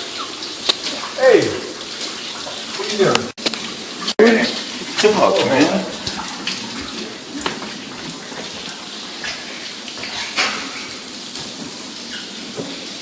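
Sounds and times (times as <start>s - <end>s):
water dripping: 0.0s - 13.0s
water pouring from ceiling: 0.0s - 13.0s.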